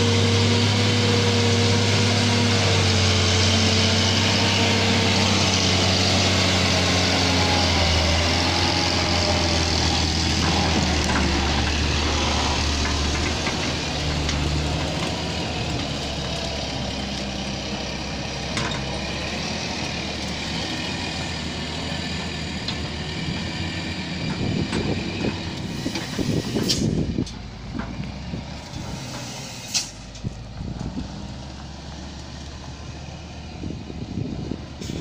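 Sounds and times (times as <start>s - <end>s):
rough noise: 0.0s - 32.5s
truck diesel engine running: 0.0s - 35.0s.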